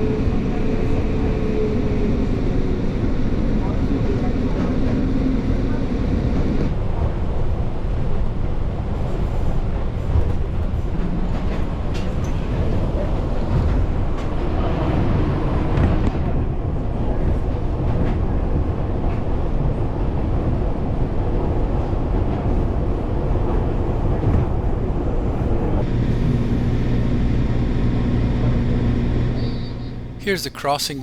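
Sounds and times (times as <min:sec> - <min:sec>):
train rumbling on rails: 0:00.0 - 0:30.8.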